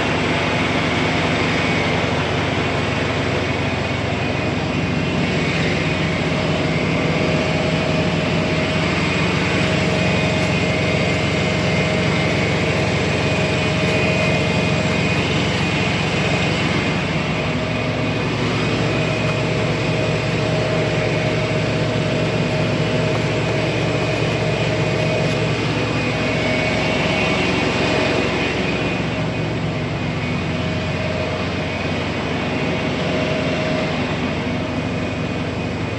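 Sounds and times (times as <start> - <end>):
diesel truck engine running: 0.0 - 35.9.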